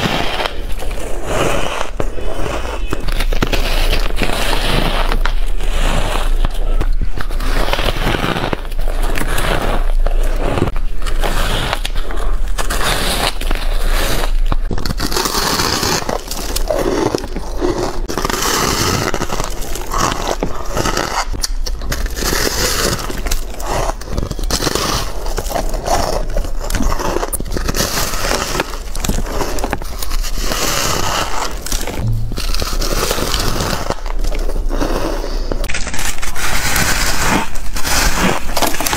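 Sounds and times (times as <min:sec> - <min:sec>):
shaved ice crunching when chewed: 0:00.1 - 0:32.0, 0:34.0 - 0:38.9.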